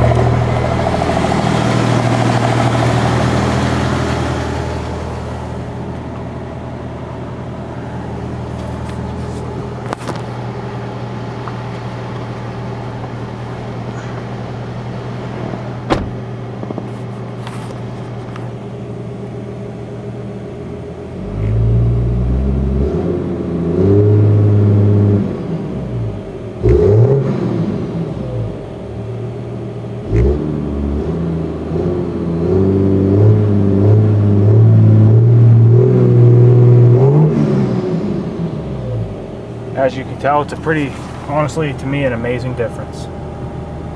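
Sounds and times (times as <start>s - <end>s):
diesel engine idling and revving: 0.0s - 43.9s.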